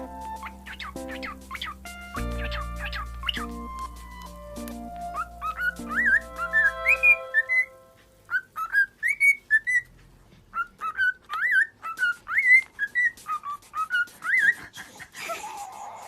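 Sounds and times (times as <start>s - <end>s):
pet bird whistling: 0.0s - 9.9s, 10.5s - 14.7s.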